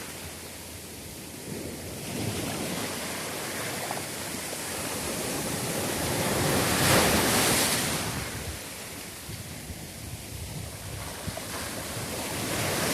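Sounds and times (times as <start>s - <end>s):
waves washing on shore: 0.0s - 12.9s.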